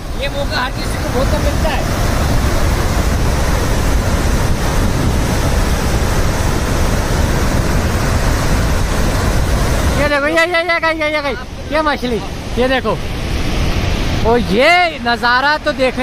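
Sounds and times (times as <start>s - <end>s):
floodwater rushing from spillway: 0.0s - 16.0s.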